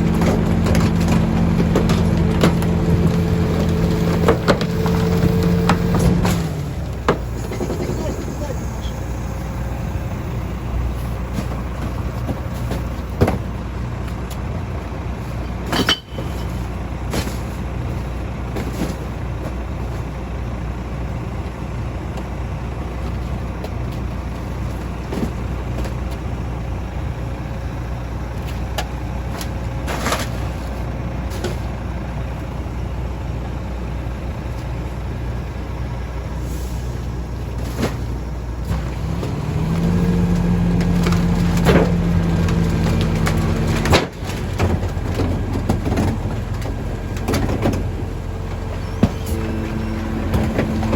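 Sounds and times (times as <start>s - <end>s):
garbage truck engine running: 0.0s - 50.9s.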